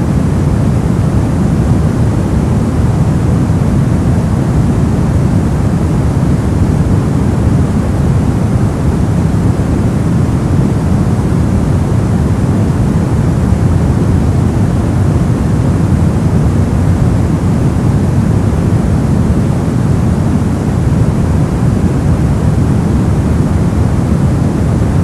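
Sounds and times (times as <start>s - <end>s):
brown noise hiss: 0.0s - 25.0s.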